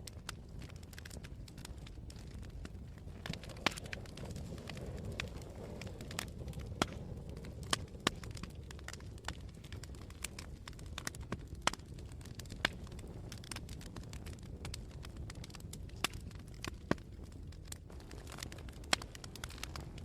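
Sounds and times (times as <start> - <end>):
campfire pops and crackles: 0.0 - 20.0
low fire rumble: 0.0 - 20.0.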